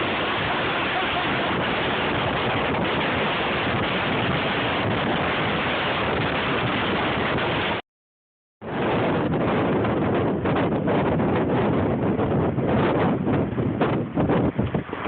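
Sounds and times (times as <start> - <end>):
blizzard wind buffeting microphone: 0.0 - 7.8, 8.6 - 15.0.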